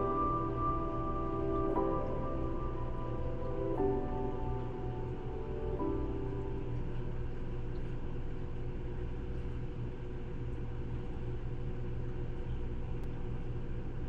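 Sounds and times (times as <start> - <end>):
aquarium equipment humming: 0.0 - 14.0.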